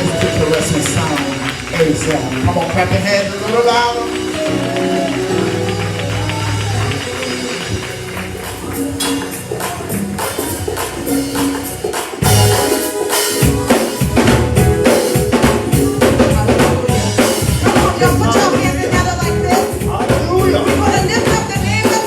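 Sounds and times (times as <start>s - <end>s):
drum kit beat: 0.0s - 22.0s
gospel praise band music: 0.0s - 22.0s.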